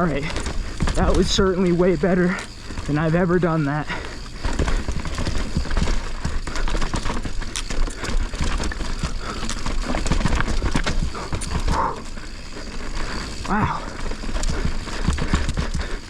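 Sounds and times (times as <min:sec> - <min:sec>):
bike rattling over rocks: 0:00.0 - 0:16.0.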